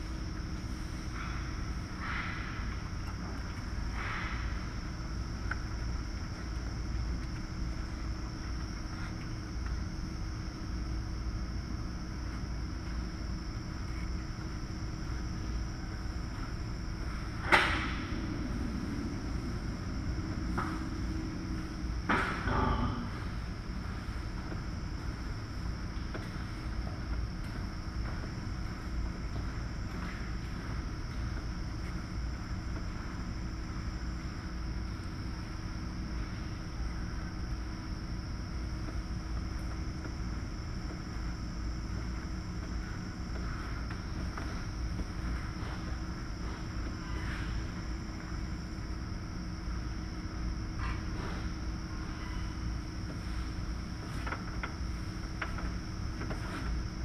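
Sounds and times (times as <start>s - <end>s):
machinery hum and rumble: 0.0s - 57.0s
mechanical drone and hiss: 0.0s - 57.0s
thin high whine: 0.0s - 57.0s.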